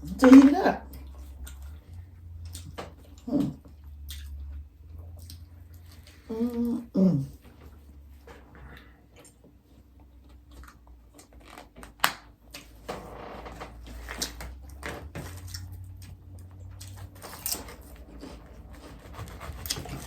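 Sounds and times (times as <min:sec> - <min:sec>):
clicks taps and rustles: 0:00.0 - 0:06.3, 0:07.3 - 0:20.0.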